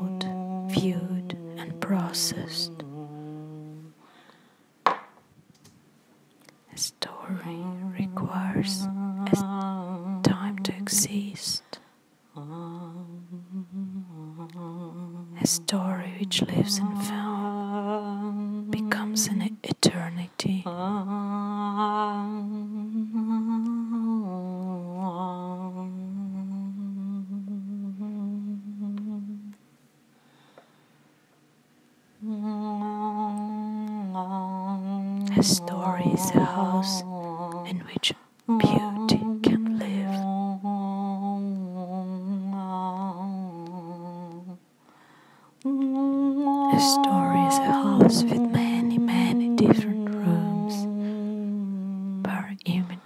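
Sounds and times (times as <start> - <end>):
person humming held notes: 0.0 - 4.3, 6.8 - 11.8, 12.4 - 29.6, 32.2 - 44.6, 45.6 - 53.0.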